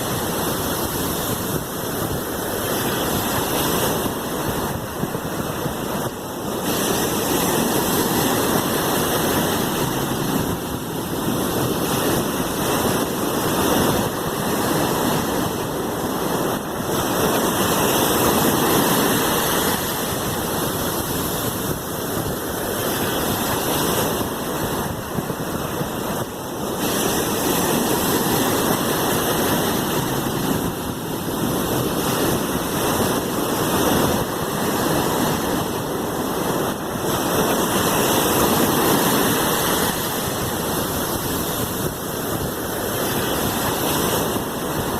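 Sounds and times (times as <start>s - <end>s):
sea waves rushing: 0.0s - 44.9s.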